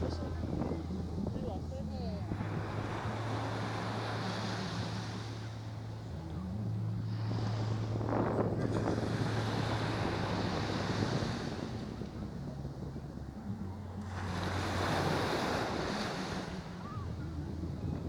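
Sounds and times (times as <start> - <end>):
sea waves washing in: 0.0 - 18.0
steady low hum: 0.0 - 18.0
wind buffeting microphone: 0.0 - 18.0.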